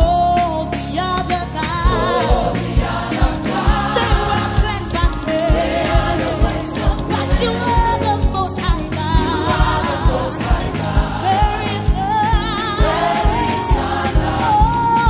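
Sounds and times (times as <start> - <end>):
gospel band playing: 0.0 - 15.0
steady drum beat: 0.0 - 15.0
lead singer and choir singing: 0.7 - 15.0.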